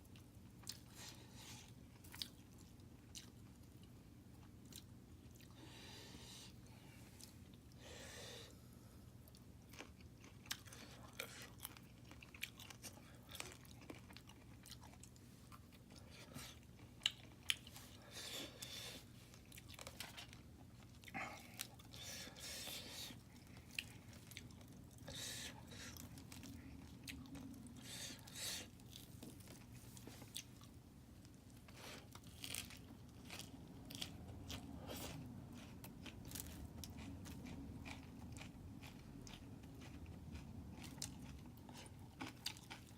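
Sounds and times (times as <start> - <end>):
person chewing crunchy food: 0.0 - 6.0, 9.1 - 42.9.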